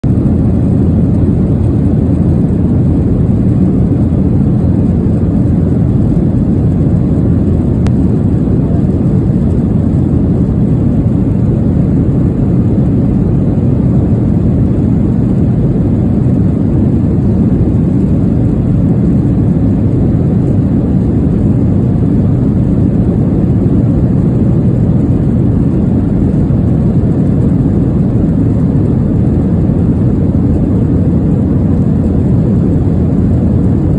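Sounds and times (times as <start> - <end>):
airplane cabin drone in flight: 0.0 - 33.9.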